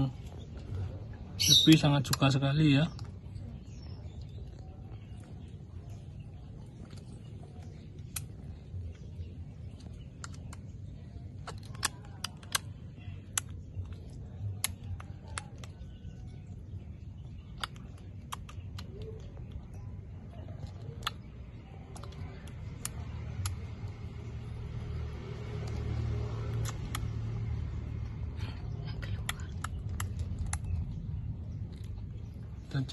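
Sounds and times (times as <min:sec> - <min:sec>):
low rumble: 0:02.9 - 0:32.9
baby monkey sucking at a bottle: 0:04.2 - 0:31.0.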